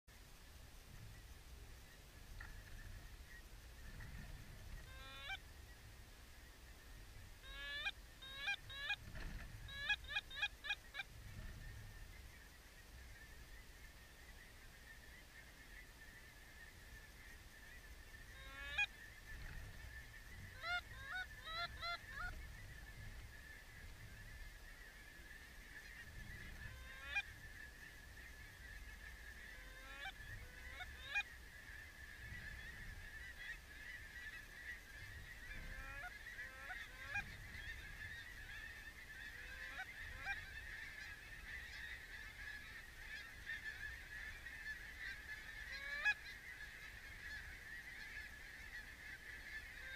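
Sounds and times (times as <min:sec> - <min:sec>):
distant birds chorus: 0:00.8 - 0:49.9
geese honking: 0:01.8 - 0:49.9.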